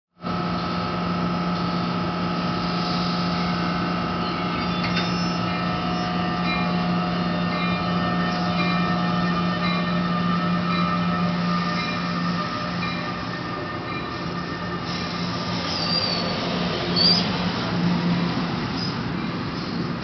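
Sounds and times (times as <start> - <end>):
electric locomotive hum: 0.2 - 20.0
train coaches rolling by: 0.2 - 20.0
train wheel squeals: 2.6 - 20.0.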